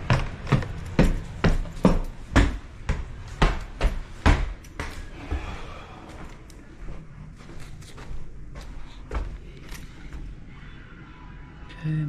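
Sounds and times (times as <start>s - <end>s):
footsteps climbing stairs: 0.0s - 10.5s.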